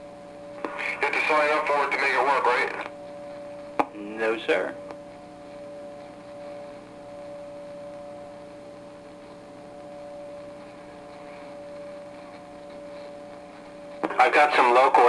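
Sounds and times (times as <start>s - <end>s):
radio speaker multi-tone hum: 0.0s - 15.0s
radio hiss: 0.5s - 15.0s.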